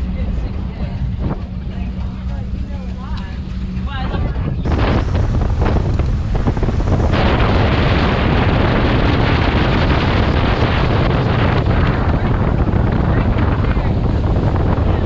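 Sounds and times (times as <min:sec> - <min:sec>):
boat engine rumble: 0:00.0 - 0:15.0
water rushing past: 0:00.0 - 0:15.0
wind buffeting microphone: 0:00.0 - 0:15.0.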